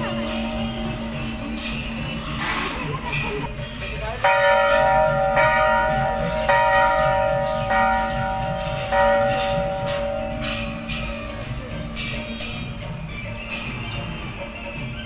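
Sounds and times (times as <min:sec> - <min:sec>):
temple bell ringing: 0:00.0 - 0:15.0.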